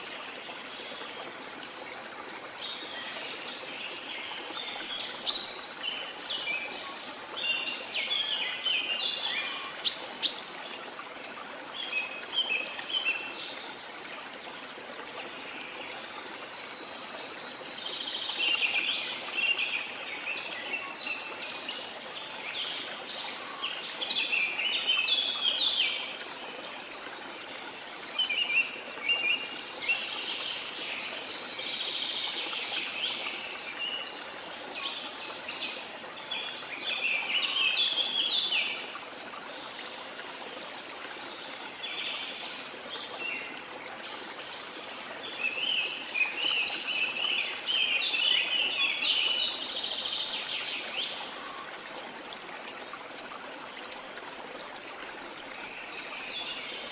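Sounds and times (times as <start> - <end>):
running water: 0.0 - 56.9.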